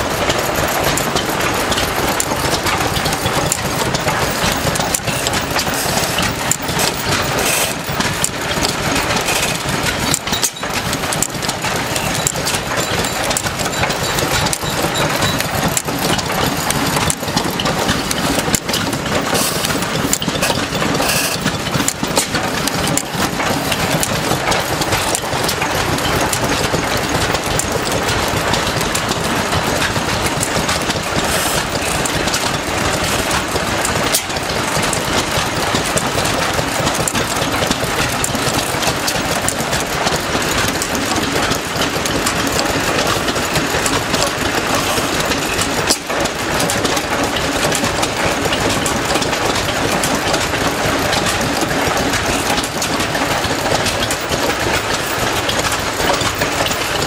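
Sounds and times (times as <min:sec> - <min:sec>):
stationary engines clattering: 0:00.0 - 0:57.0.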